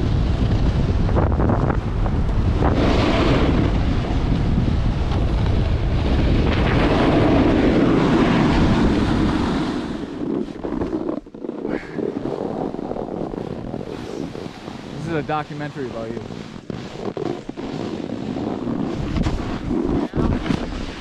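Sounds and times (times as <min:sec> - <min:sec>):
snowboard carving on snow: 0:00.0 - 0:21.0
wind buffeting microphone: 0:00.0 - 0:21.0.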